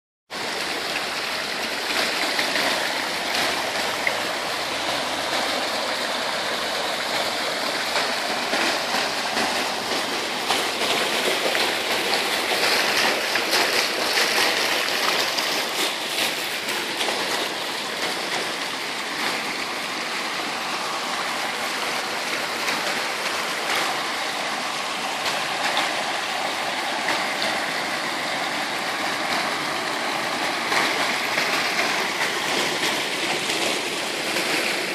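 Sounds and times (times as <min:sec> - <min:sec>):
fountain water splashing: 0:00.3 - 0:34.9.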